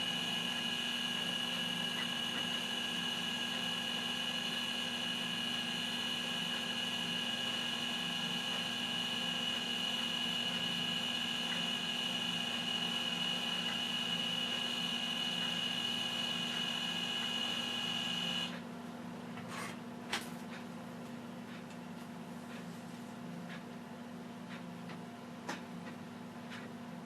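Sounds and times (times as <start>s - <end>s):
machine hum with high whine: 0.0s - 27.0s.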